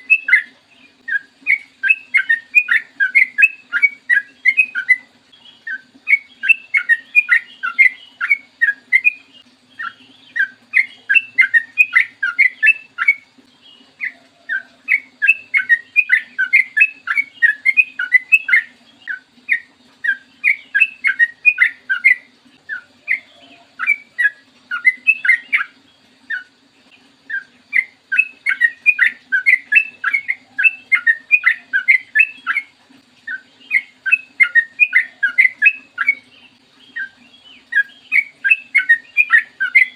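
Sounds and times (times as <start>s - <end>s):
bulbul singing bubbly notes: 0.0s - 39.9s
faint steady hum: 0.0s - 39.9s.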